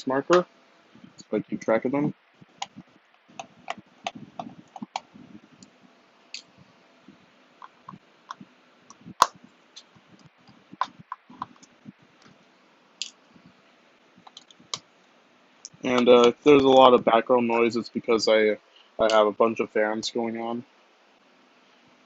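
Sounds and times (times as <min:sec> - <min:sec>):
room fans hissing: 0:00.0 - 0:22.0.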